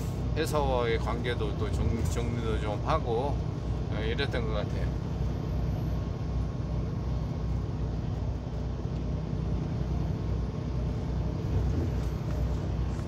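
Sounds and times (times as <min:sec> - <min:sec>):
road noise inside cab: 0:00.0 - 0:13.0
truck engine rumble: 0:00.0 - 0:13.0.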